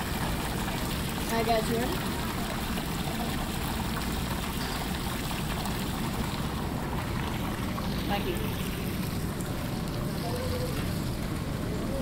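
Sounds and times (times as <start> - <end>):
running water rushing: 0.0 - 11.8.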